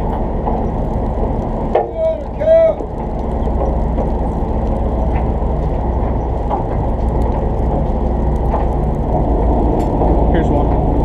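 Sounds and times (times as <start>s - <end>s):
muffled boat engine humming: 0.0s - 11.0s.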